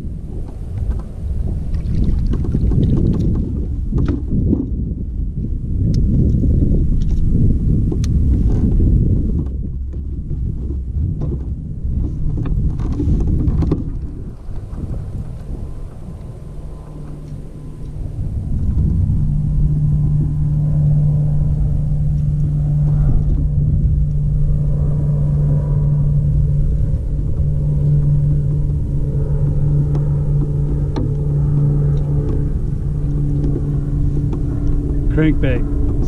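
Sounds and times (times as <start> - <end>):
low motor hum: 0.0 - 36.0
rumble: 0.0 - 36.0.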